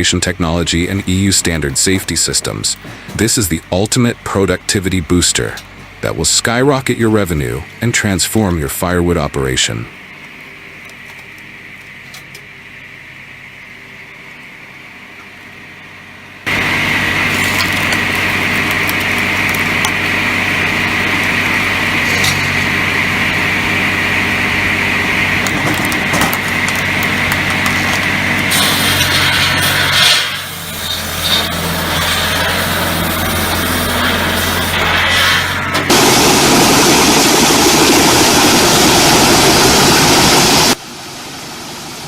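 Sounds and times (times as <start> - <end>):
loud machine noise with whine: 0.0 - 42.0
machinery low hum: 0.0 - 42.0.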